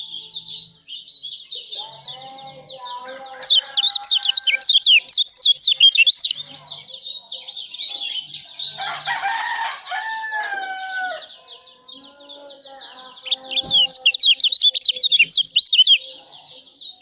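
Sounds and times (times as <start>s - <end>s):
songbird twittering: 0.0s - 17.0s.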